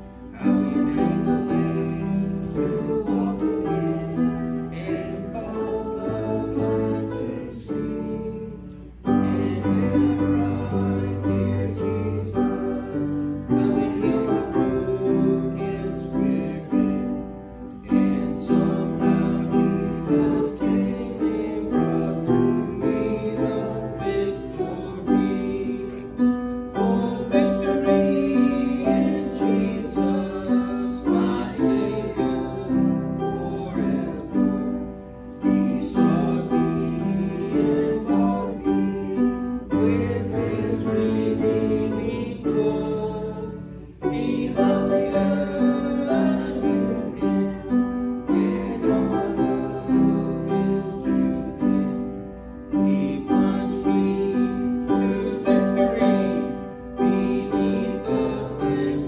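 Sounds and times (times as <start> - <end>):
voices singing a hymn: 0.0 - 59.0.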